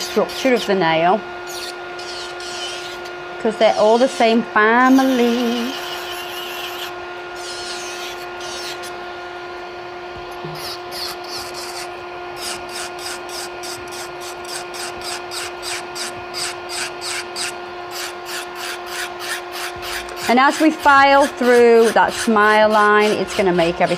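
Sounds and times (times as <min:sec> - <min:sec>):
electric nail file whining: 0:00.0 - 0:23.9
nail file rasping on nail: 0:01.5 - 0:03.1, 0:03.8 - 0:09.0, 0:10.5 - 0:23.9.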